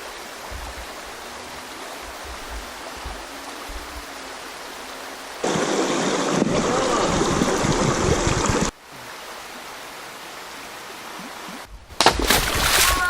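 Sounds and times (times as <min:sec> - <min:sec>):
loud rush of water: 0:00.0 - 0:13.0
stream flowing: 0:00.0 - 0:13.0.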